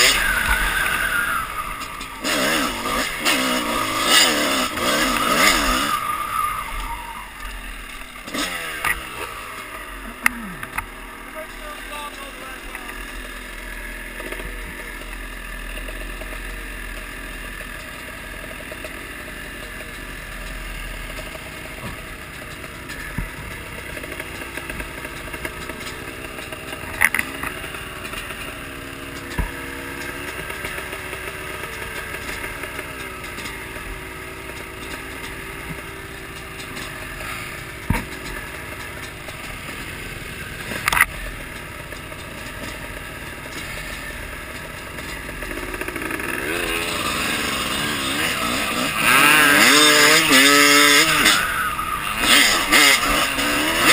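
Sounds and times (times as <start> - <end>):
dirt bike engines idling: 0.0 - 53.9.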